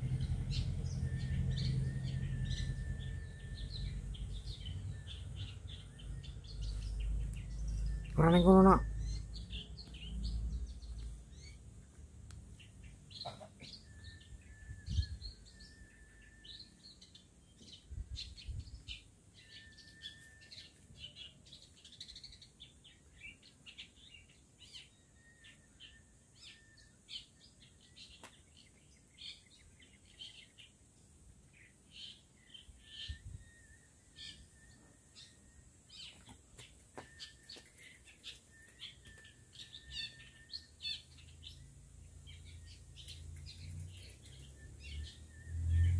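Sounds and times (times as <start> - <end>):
bird chirping and twittering: 0.0 - 11.9, 12.5 - 45.9
whistled bird notes: 0.2 - 10.2, 13.2 - 28.3, 31.9 - 41.7, 42.4 - 45.9.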